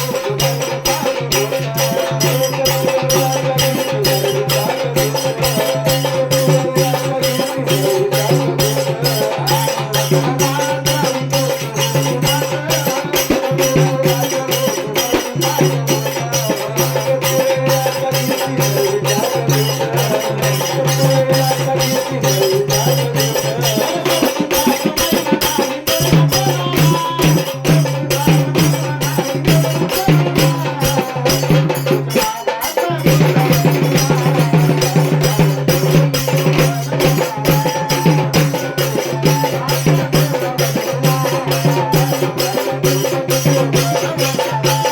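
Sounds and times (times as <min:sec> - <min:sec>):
fast percussion beat with shaker: 0:00.0 - 0:44.9.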